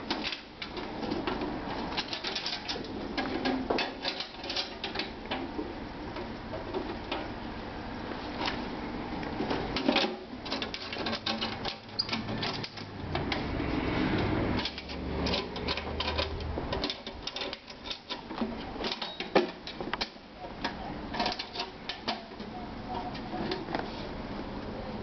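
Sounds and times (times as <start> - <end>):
metal cart clicks and rattles: 0.0 - 7.3, 9.4 - 13.5, 14.2 - 23.7.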